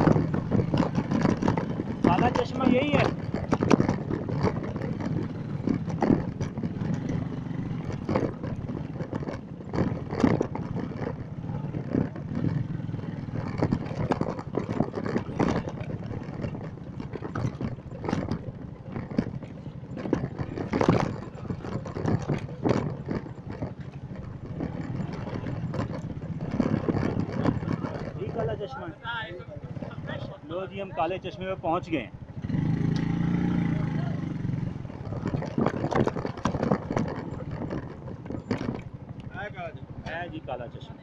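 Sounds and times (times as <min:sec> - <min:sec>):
bike clattering over stones: 0:00.0 - 0:41.0
motorcycle engine running: 0:00.0 - 0:41.0.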